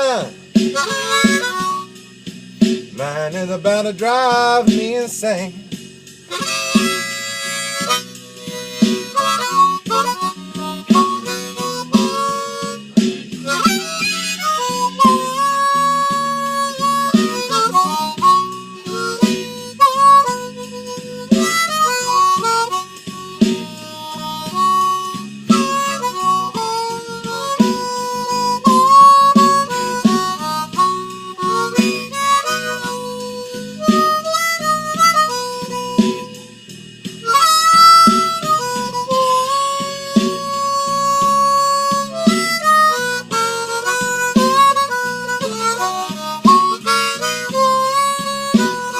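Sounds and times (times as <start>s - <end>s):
blues harmonica solo: 0.0s - 48.9s
drum and bass backing track: 0.0s - 48.9s.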